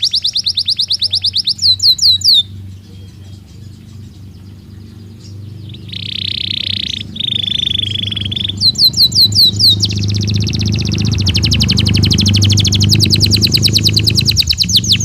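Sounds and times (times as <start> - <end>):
canary singing: 0.0 - 15.0
low hum: 1.1 - 15.0.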